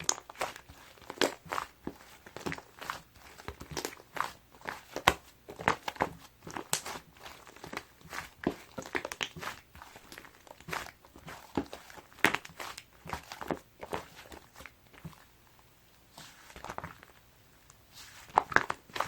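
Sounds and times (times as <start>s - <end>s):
slime squishing and popping: 0.0s - 15.3s, 18.0s - 19.0s.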